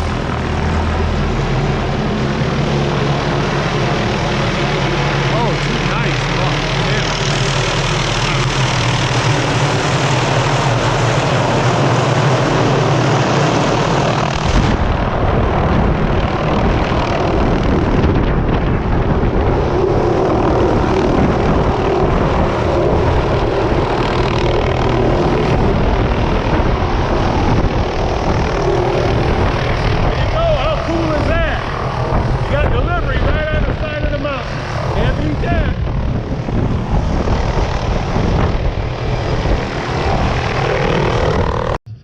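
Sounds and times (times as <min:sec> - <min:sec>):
helicopter turbine and rotor: 0:00.0 - 0:42.0.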